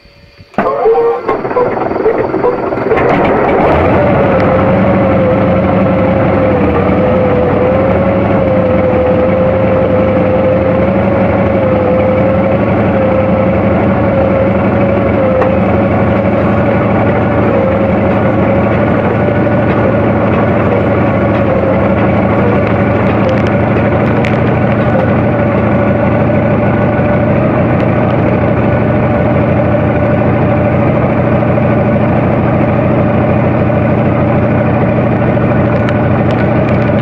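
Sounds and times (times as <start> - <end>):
helicopter engines and rotors: 0.0 - 37.0.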